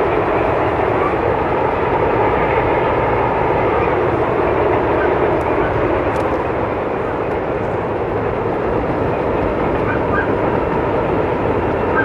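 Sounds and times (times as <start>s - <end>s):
train cars rumbling over bridge: 0.0s - 12.0s.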